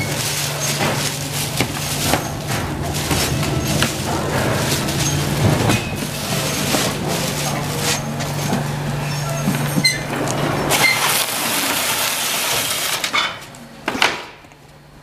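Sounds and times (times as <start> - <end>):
box scraping through machine: 0.0 - 13.1
cardboard and plastic rustling: 0.0 - 13.1
tape sealer motor hum: 0.0 - 13.1.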